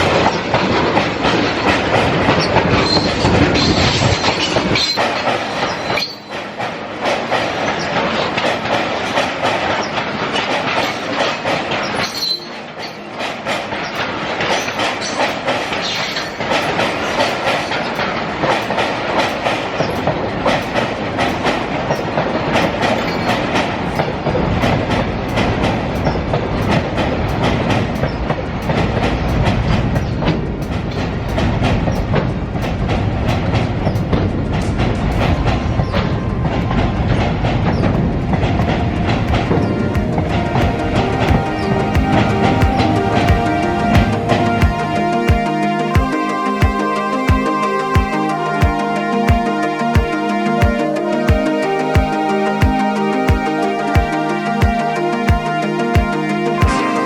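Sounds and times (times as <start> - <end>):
low train rumble: 0.0 - 57.0.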